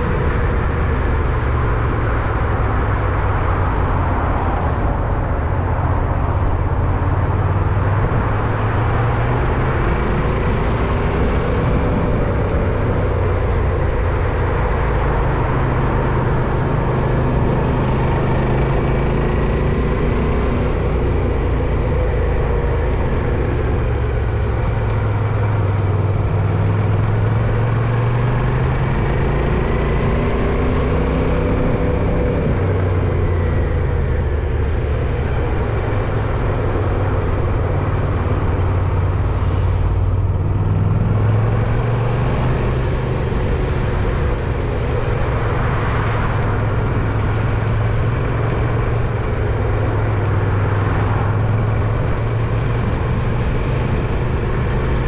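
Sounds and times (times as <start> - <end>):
traffic and road noise: 0.0 - 55.0.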